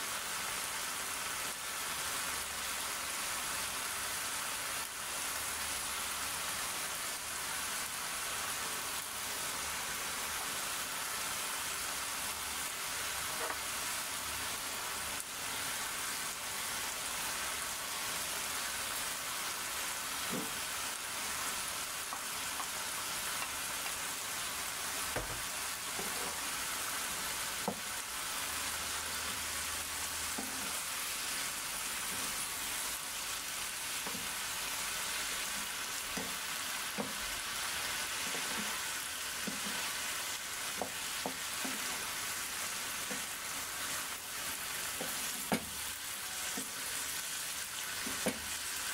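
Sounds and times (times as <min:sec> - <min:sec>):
cabbage sizzling in a pan: 0:00.0 - 0:48.9.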